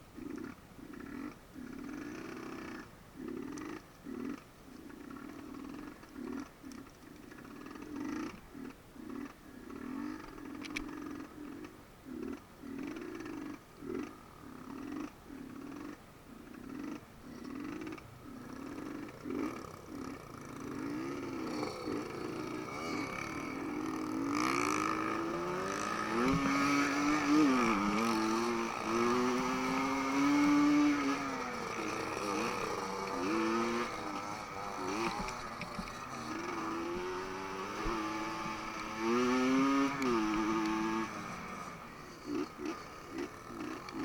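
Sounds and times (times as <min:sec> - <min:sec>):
motorcycle engine revving: 0:00.2 - 0:16.0, 0:16.6 - 0:44.0.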